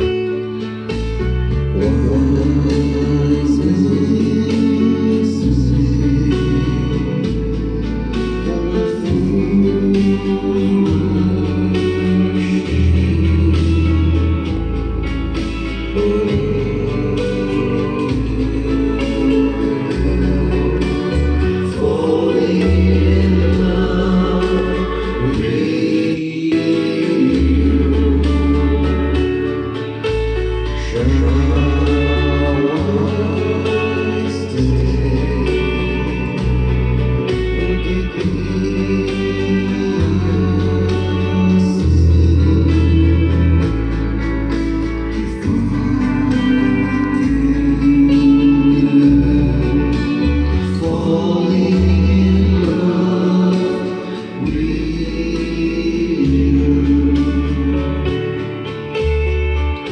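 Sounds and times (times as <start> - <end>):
music with strong bass line: 0.0 - 59.9.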